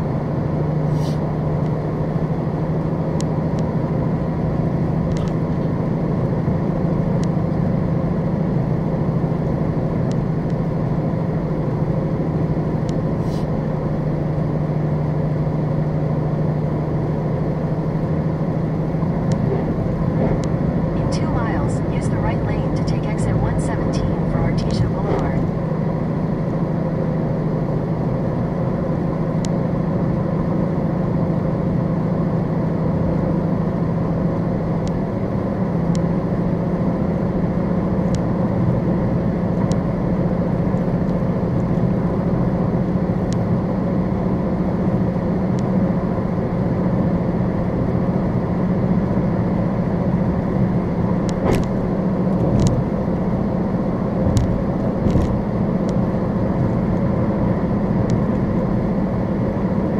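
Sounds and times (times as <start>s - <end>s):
low engine hum: 0.0s - 59.9s.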